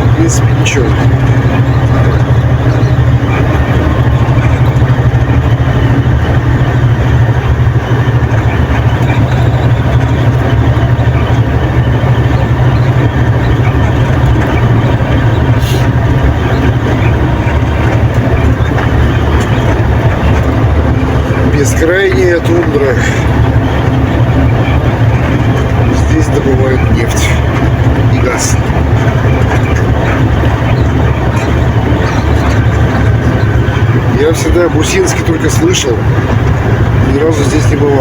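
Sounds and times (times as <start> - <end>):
road noise: 0.0 - 38.0
truck engine drone: 0.0 - 38.0.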